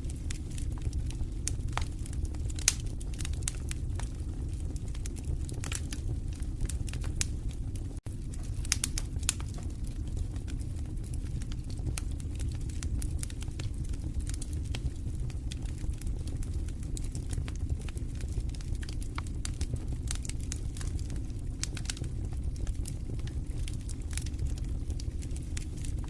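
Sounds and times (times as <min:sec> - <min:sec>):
low rumble of flames: 0:00.0 - 0:26.0
wood fire crackling: 0:00.0 - 0:26.0.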